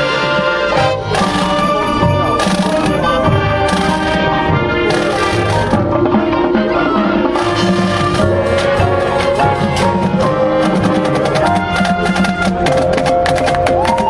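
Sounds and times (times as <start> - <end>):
brass and woodwind chords: 0.0 - 14.0
marching band drums: 0.0 - 14.0.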